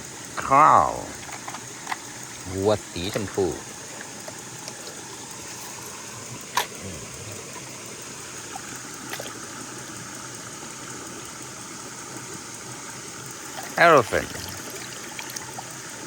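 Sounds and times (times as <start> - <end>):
stream water trickling: 1.2 - 16.0.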